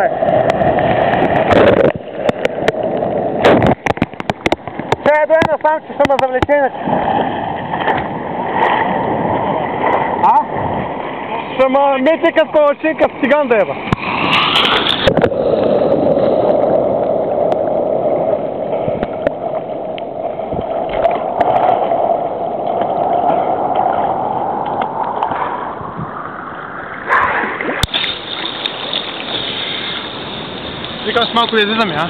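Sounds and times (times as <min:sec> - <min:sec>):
sea water sloshing and gurgling: 0:00.0 - 0:32.0
water splash: 0:00.0 - 0:32.0.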